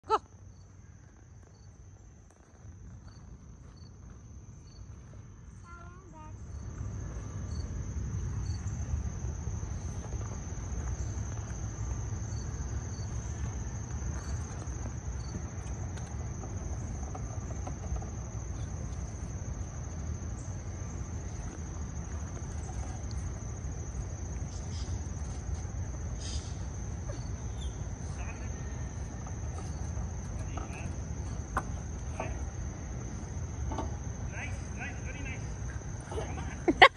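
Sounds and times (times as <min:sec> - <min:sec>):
high-pitched insect chorus: 0:00.1 - 0:36.9.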